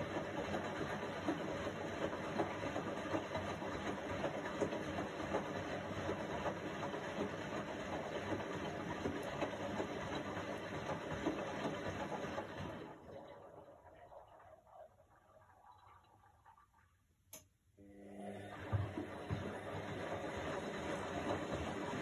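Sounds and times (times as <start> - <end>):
washing machine drum churning: 0.0 - 14.4, 18.4 - 22.0.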